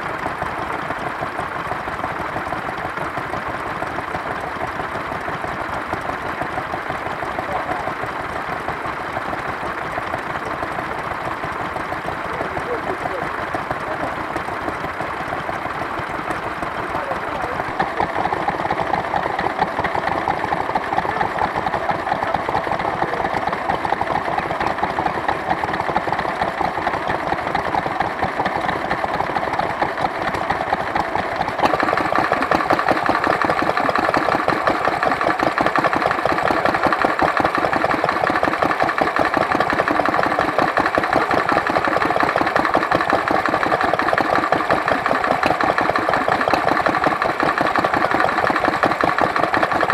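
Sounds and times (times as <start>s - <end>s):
small stationary engines running: 0.0s - 49.9s.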